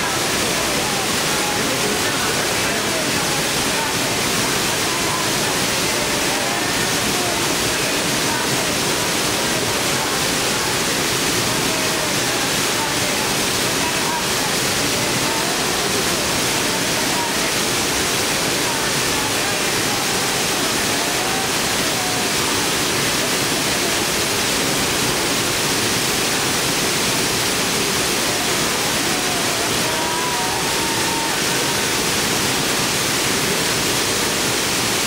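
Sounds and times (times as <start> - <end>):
waterfall crashing onto rock: 0.0 - 35.0.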